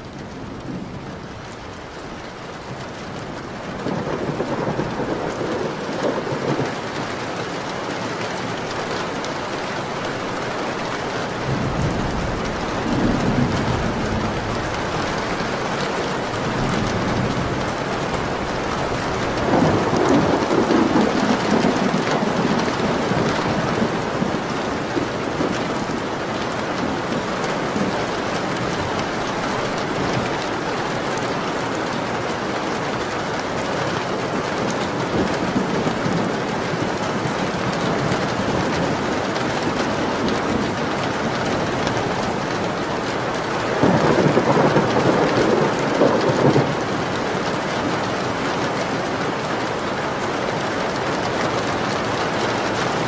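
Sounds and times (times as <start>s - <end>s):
heavy rain pattering: 0.0s - 53.0s.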